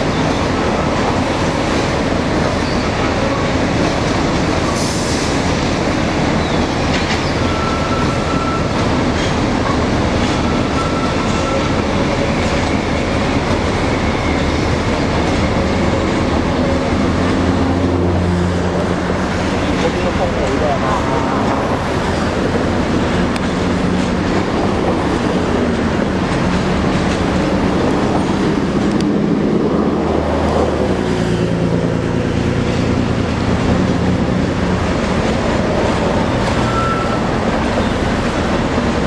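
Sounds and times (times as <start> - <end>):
diesel locomotive engine drone: 0.0 - 39.0
train wagons rolling over track: 0.0 - 39.0.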